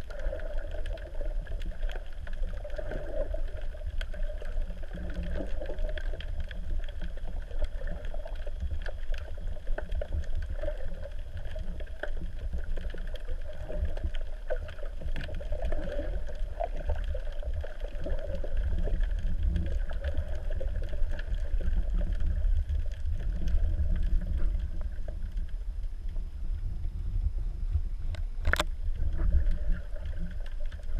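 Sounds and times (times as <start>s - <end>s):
faint underwater clicks: 0.0s - 30.9s
muffled underwater rumble: 0.0s - 30.9s.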